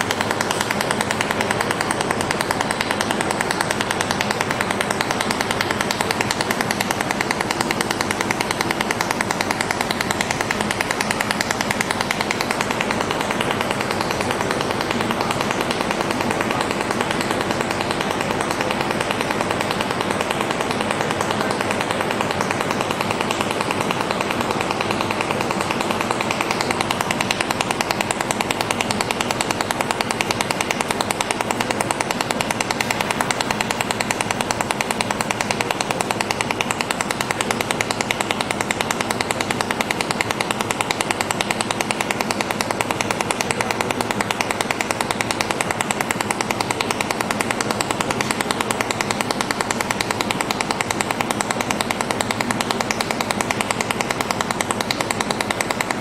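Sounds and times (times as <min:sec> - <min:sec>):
welding machine pulsing rattle: 0:00.0 - 0:56.0.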